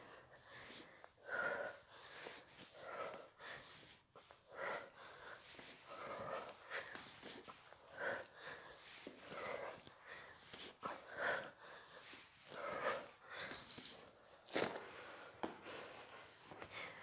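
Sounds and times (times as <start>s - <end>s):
woman breathing hard: 0.0s - 17.0s.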